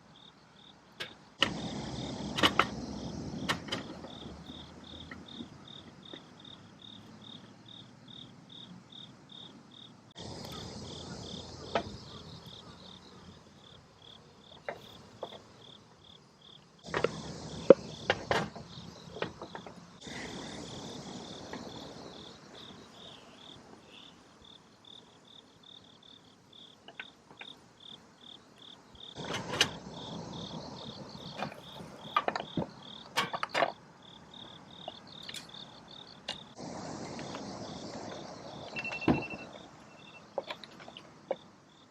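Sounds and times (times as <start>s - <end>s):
insects chirping: 0.0s - 41.9s.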